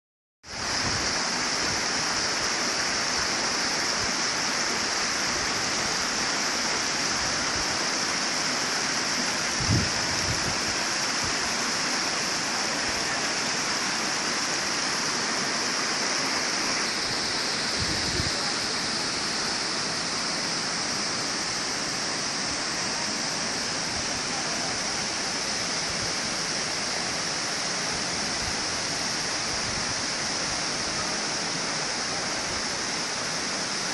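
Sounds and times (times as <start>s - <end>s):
river rushing over rocks: 0.5s - 33.9s.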